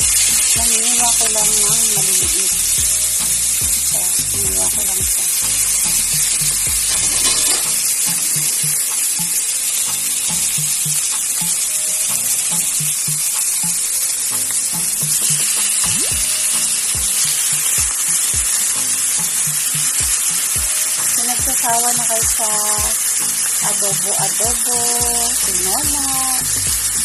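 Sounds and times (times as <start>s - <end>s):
background music with bass beat: 0.0s - 27.0s
chicken sizzling in hot oil: 0.0s - 27.0s.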